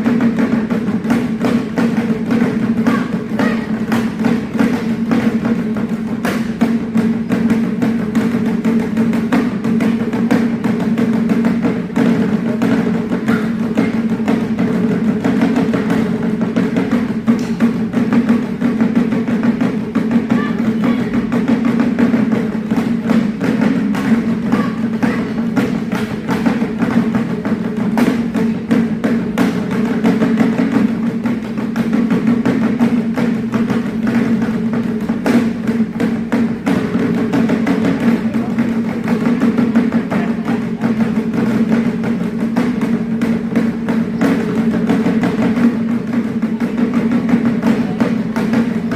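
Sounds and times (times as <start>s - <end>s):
taiko drum ensemble playing: 0.0s - 48.9s.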